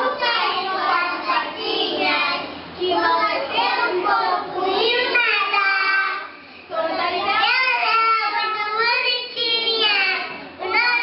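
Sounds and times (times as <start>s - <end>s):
young children singing: 0.0s - 11.0s.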